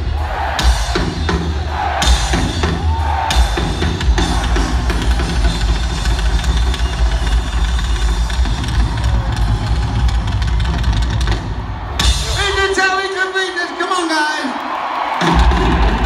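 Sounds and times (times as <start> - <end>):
drums with heavy bass: 0.0 - 13.3, 15.2 - 16.0
heavy metal band playing live: 0.0 - 13.4, 15.2 - 16.0.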